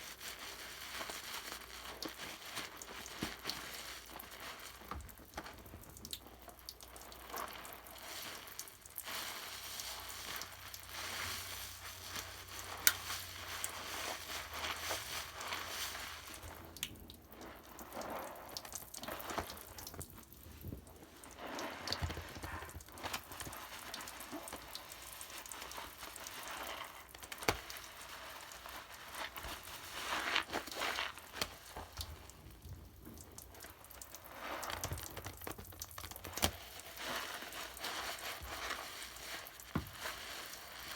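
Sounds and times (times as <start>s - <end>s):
bath foam crackling and fizzing: 0.0s - 40.9s.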